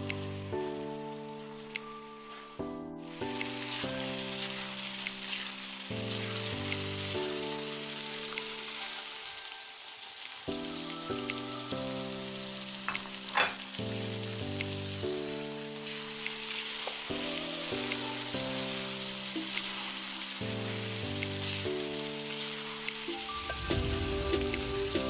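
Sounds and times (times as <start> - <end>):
background music: 0.0 - 25.0
minced meat sizzling on griddle: 0.2 - 25.0.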